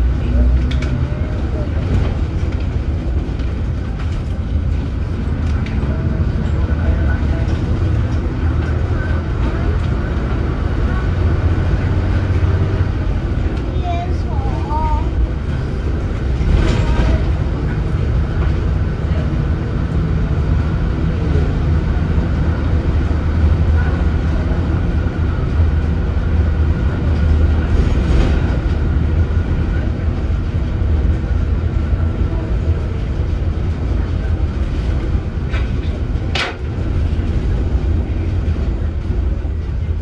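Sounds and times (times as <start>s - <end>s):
bus diesel engine droning: 0.0s - 40.0s.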